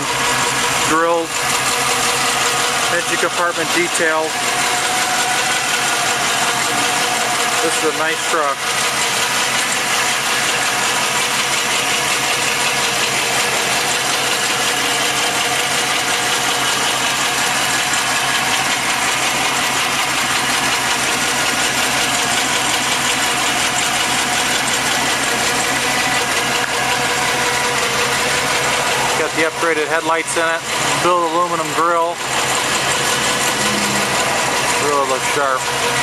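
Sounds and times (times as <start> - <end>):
pickup truck engine idling: 0.0 - 36.0.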